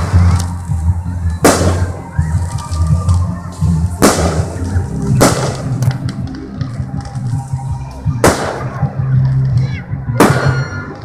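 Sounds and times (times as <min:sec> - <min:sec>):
fireworks bangs: 0:00.0 - 0:11.0
steady low rumble: 0:00.0 - 0:11.0.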